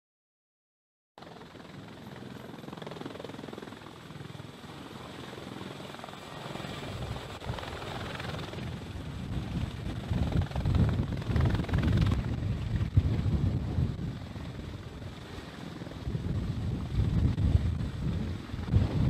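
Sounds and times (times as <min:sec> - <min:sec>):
helicopter rotor and turbine: 0:01.2 - 0:19.0.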